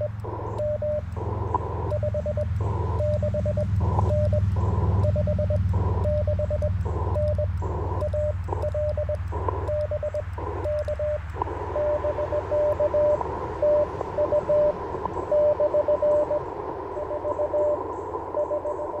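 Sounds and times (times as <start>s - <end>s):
morse code tone: 0.0s - 19.0s
radio receiver hiss: 0.0s - 19.0s.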